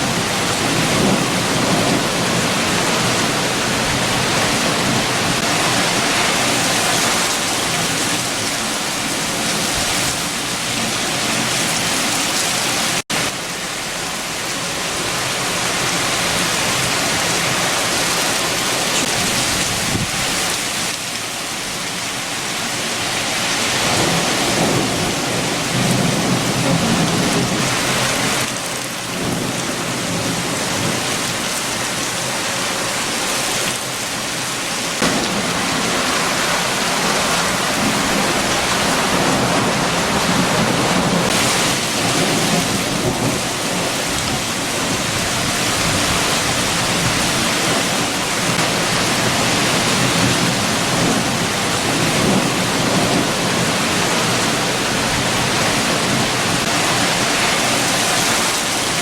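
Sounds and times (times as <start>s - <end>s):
heavy rain: 0.0s - 59.0s
strong wind: 0.0s - 59.0s.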